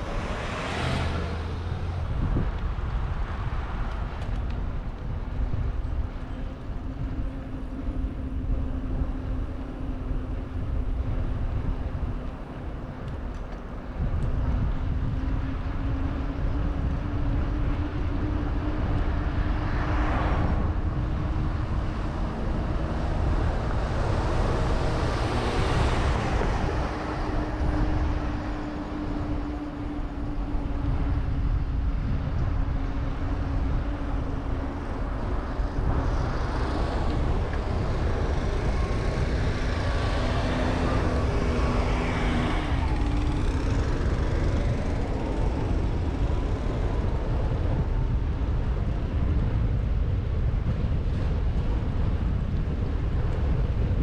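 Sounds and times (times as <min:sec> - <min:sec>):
traffic passing: 0:00.0 - 0:54.0
wind rumble on microphone: 0:00.0 - 0:54.0.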